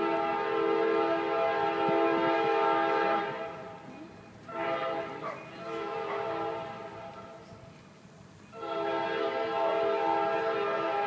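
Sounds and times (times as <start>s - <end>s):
locomotive air horn blasts: 0.0s - 3.8s, 4.5s - 7.4s, 8.5s - 11.0s.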